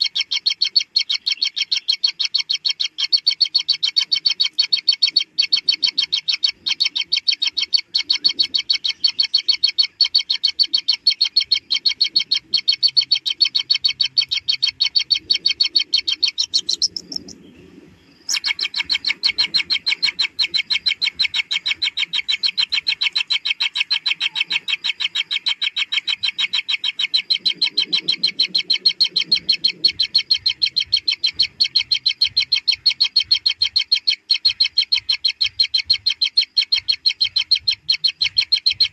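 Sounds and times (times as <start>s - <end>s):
nestlings high begging chirps: 0.0s - 38.9s.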